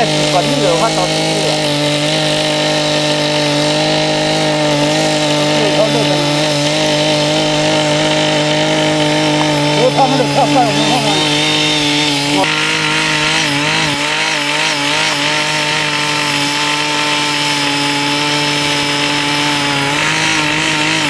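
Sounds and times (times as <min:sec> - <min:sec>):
small petrol engine running: 0:00.0 - 0:21.0.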